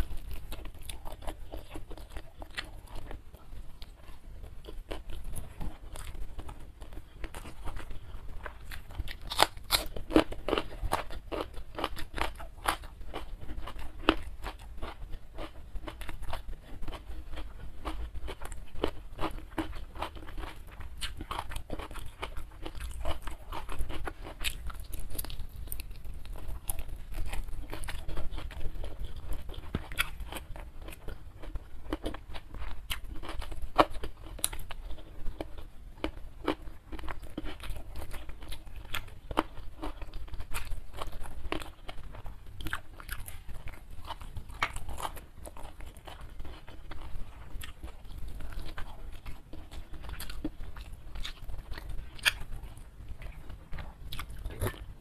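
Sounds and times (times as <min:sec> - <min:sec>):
person chewing and biting: 0:00.0 - 0:55.0.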